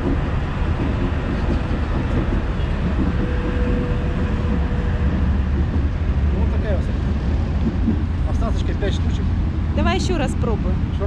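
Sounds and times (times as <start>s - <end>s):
street traffic: 0.0s - 11.0s
tram motor whine: 0.0s - 11.0s
tram wheels and motors rumbling: 0.0s - 11.0s.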